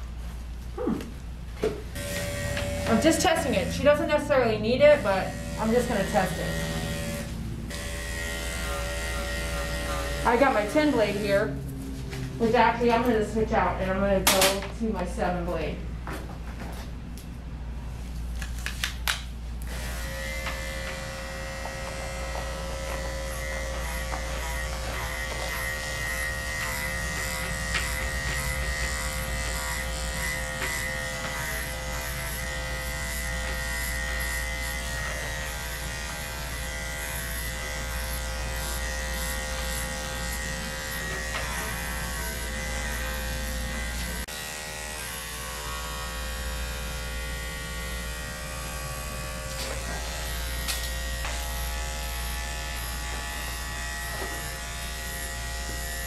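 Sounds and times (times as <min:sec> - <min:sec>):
electric clipper buzzing: 0:01.9 - 0:11.5, 0:19.6 - 0:56.0.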